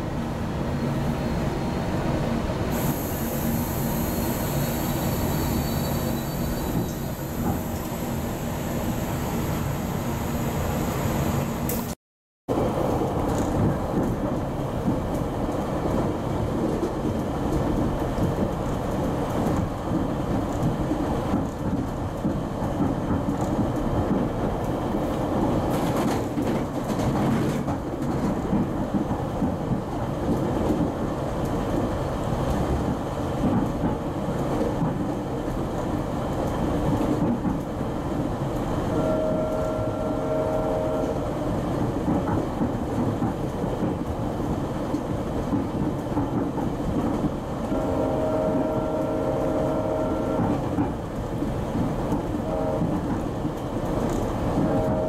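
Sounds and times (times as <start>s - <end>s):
train rumble from inside coach: 0.0s - 55.0s.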